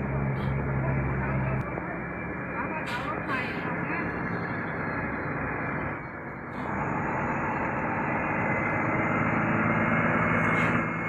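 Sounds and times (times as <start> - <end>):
vehicle engine drone: 0.0 - 11.0.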